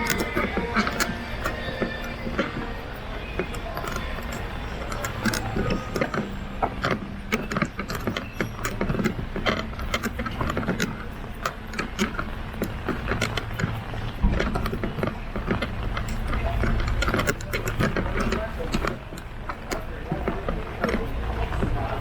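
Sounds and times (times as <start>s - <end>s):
umbrella creaking and clicking: 0.0s - 22.0s.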